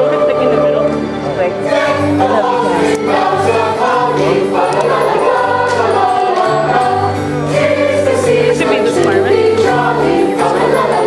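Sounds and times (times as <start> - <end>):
choir singing in parts: 0.0 - 11.0
low held accompaniment notes: 0.0 - 11.0.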